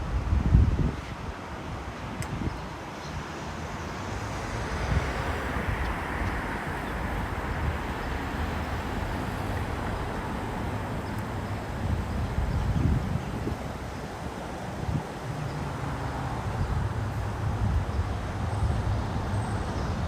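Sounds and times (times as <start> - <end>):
wind buffeting microphone: 0.0 - 20.0
ocean surf on sandy beach: 1.2 - 18.5.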